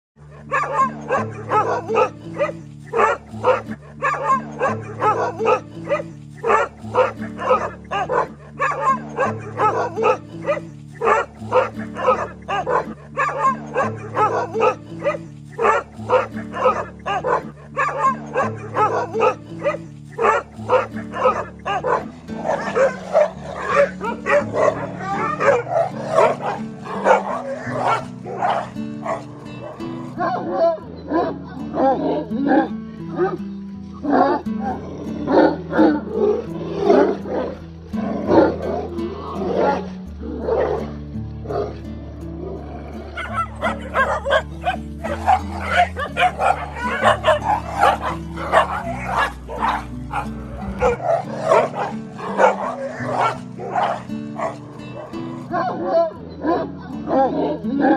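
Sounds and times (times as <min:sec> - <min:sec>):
background music with bass: 0:00.2 - 0:57.9
dogs barking and snarling: 0:00.2 - 0:57.9.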